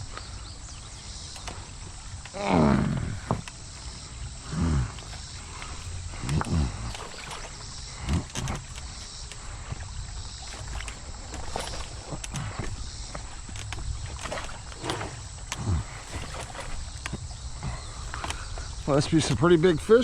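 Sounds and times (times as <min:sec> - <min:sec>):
large bird calling: 0:00.0 - 0:20.0.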